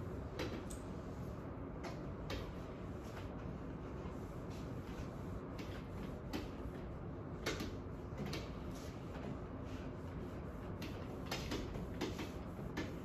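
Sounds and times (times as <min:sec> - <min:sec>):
low room hum: 0:00.0 - 0:13.0
eraser swishing on whiteboard: 0:00.2 - 0:13.0.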